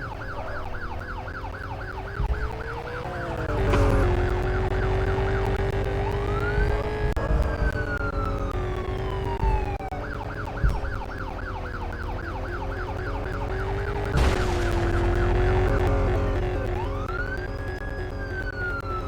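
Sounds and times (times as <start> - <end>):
toy police siren: 0.0 - 14.1, 15.2 - 19.0.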